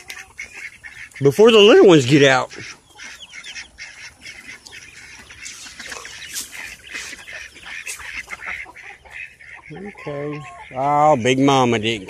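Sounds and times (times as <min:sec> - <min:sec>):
poultry calling: 0:00.0 - 0:12.0.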